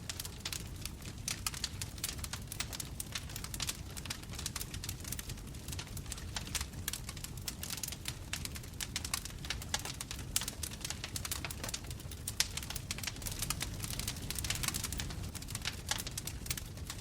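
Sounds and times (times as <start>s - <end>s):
bonfire crackling: 0.0s - 17.0s
low rumble of flames: 0.0s - 17.0s.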